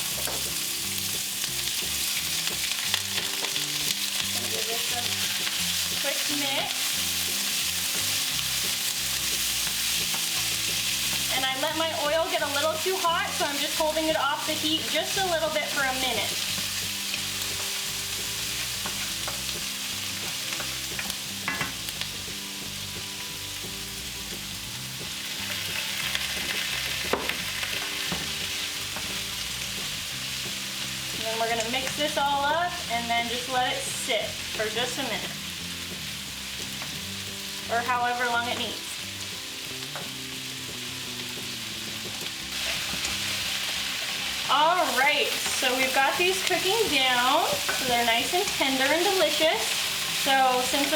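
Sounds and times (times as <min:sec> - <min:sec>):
vegetables sizzling in hot oil: 0:00.0 - 0:50.9.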